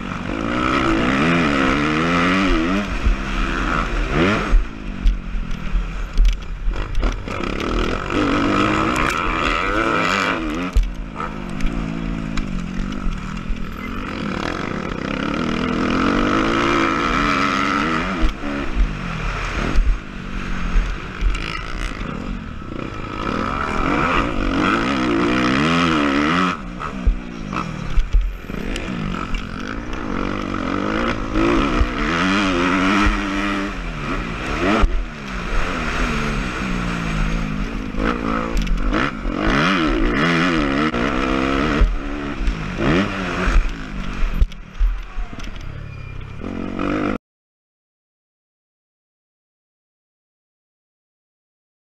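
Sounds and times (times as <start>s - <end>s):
motorcycle engine revving: 0.0s - 47.2s.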